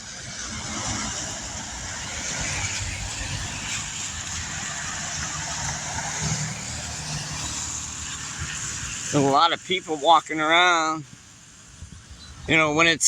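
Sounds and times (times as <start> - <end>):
cars driving past: 0.0 - 11.9.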